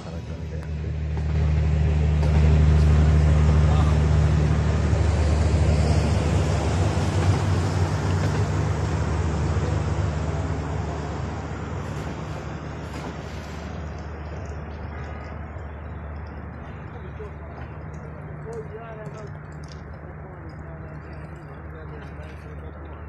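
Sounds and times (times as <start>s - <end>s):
train engine hum: 0.0s - 23.0s
wheels rumbling on rail: 0.0s - 23.0s.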